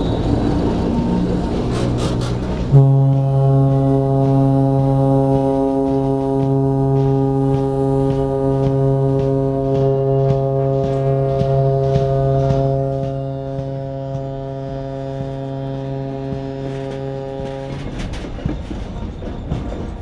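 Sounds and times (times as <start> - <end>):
train horn blast: 0.0 - 18.4.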